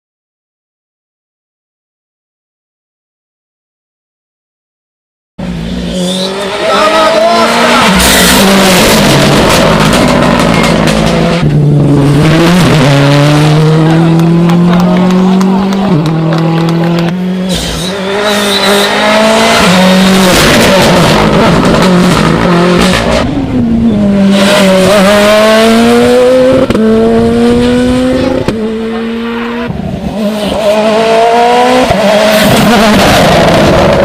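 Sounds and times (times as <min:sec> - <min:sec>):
rally car engine at full throttle: 0:05.4 - 0:34.0.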